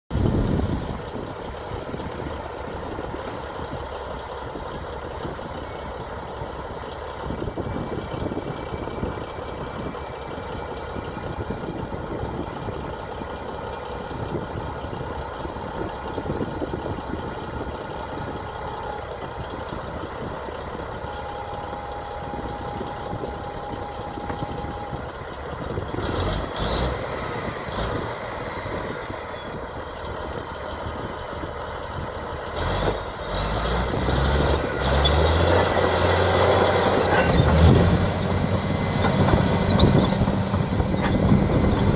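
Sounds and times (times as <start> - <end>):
bulldozer diesel engine running: 0.1 - 41.9.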